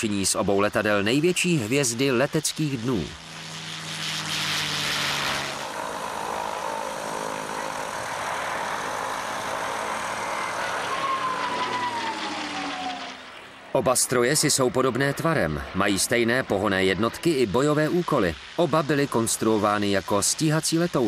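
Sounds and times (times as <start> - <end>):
propeller plane engine drone: 0.0 - 21.0.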